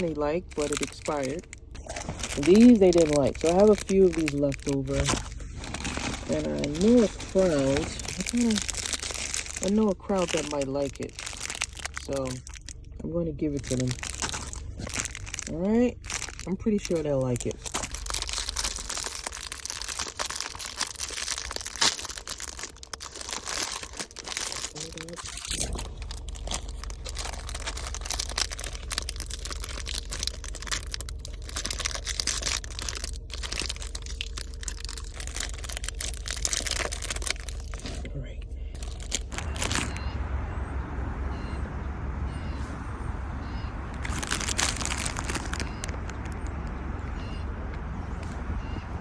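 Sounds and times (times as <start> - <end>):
snack packets crinkling: 0.0 - 40.2, 43.9 - 46.8
steady low rumble: 0.0 - 49.0.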